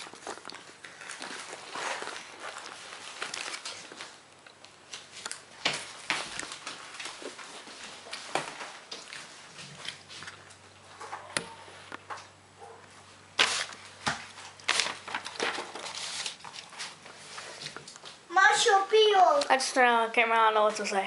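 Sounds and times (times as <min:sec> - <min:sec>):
rustling: 0:00.0 - 0:12.0, 0:12.8 - 0:18.7.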